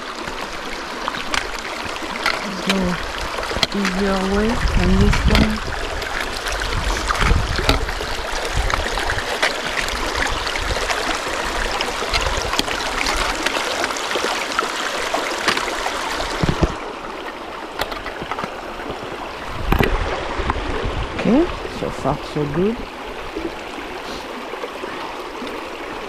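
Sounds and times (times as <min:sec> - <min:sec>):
creek rushing over boulders: 0:00.0 - 0:26.0.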